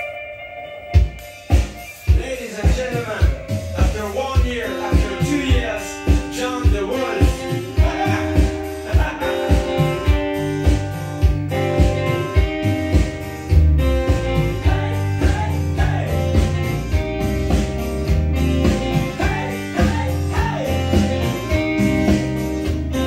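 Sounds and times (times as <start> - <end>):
rock music from a record: 0.0 - 23.0.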